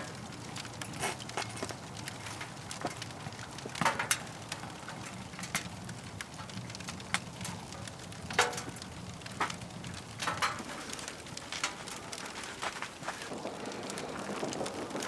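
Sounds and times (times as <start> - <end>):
firewood crackling in stove: 0.0 - 15.0.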